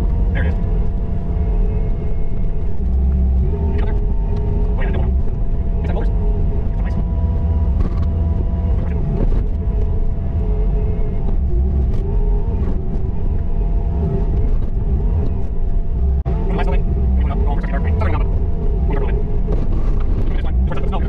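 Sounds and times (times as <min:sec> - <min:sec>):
diesel engine rumbling: 0:00.0 - 0:21.0
faint steady whine: 0:00.0 - 0:21.0.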